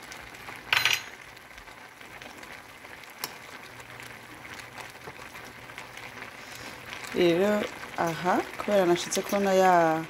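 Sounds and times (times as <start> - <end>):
beans simmering bubbling: 0.0 - 10.0.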